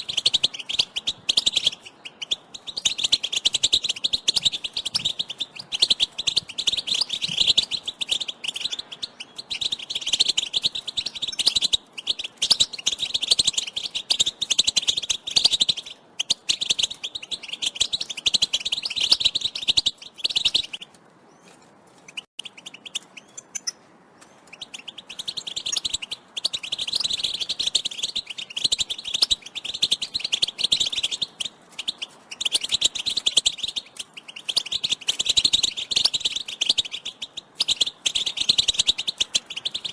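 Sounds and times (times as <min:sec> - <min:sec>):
goldfinch twittering calls: 0:00.0 - 0:21.5, 0:22.1 - 0:39.9.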